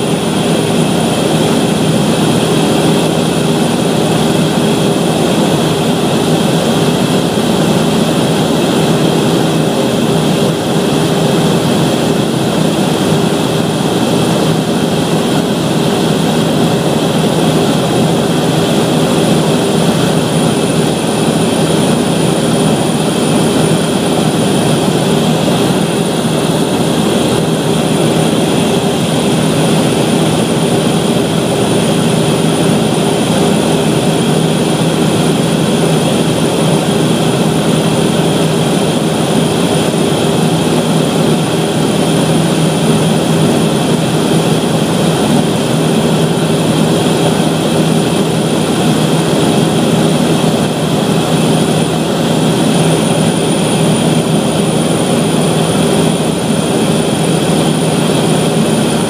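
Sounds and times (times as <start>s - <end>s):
turboprop engine drone: 0.0s - 59.0s.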